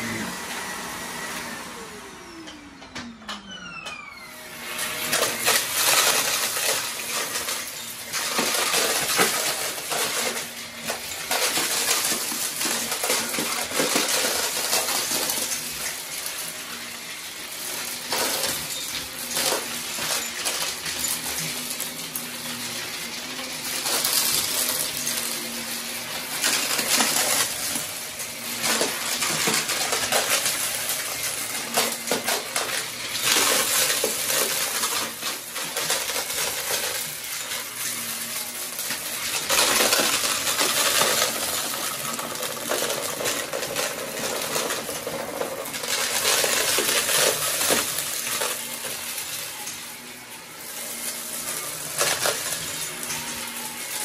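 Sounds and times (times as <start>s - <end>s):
vacuum cleaner motor hiss: 0.0s - 54.0s
debris rattling into vacuum: 4.7s - 54.0s.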